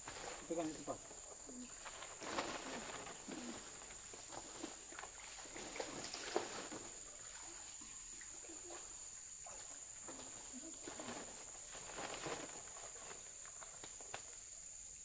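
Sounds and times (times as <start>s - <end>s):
faint rustles: 0.0s - 7.8s, 8.4s - 14.6s.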